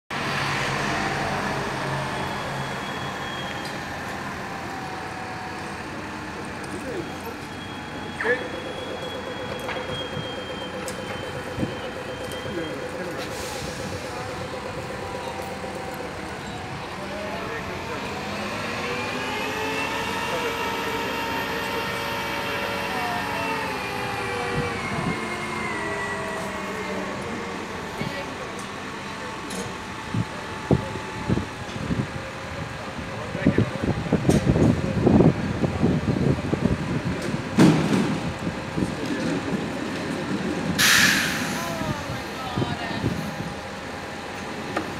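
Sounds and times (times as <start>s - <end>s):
city street traffic: 0.1s - 44.9s
heavy vehicle engine running: 0.1s - 44.9s.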